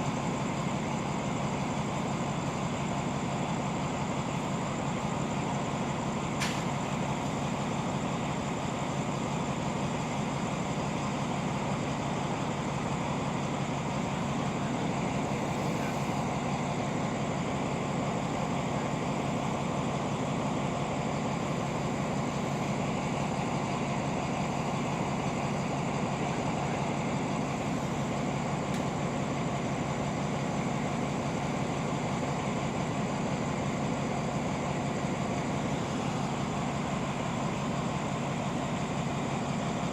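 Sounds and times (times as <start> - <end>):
diesel locomotive idling: 0.0 - 39.9.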